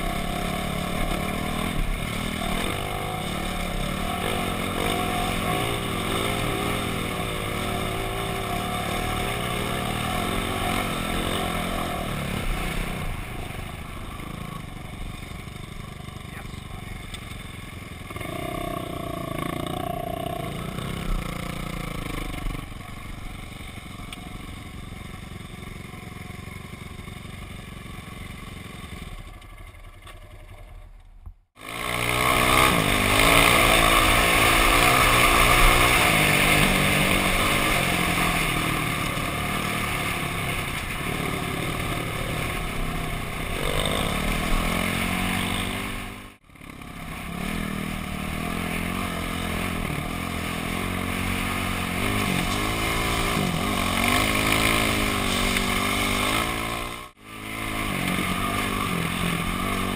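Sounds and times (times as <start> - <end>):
dirt bike engine revving: 0.0 - 29.2, 31.6 - 59.9
dirt bike engines idling: 0.0 - 59.9.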